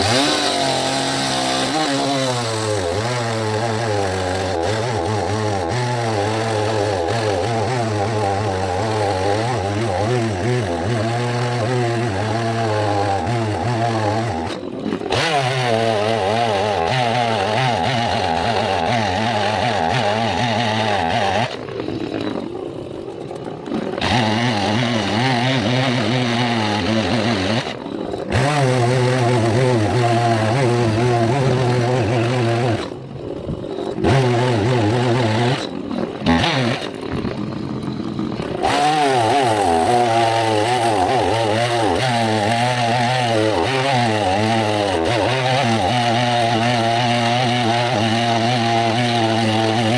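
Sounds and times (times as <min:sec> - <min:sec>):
chainsaw cutting through wood: 0:00.0 - 0:49.9.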